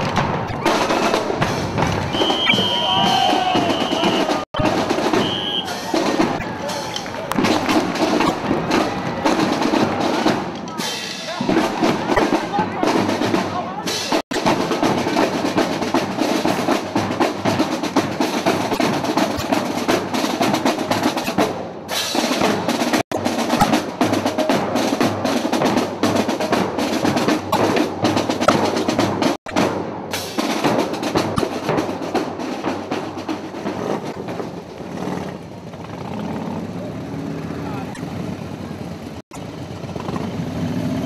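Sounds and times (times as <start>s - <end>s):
snare drum: 0.0s - 34.6s.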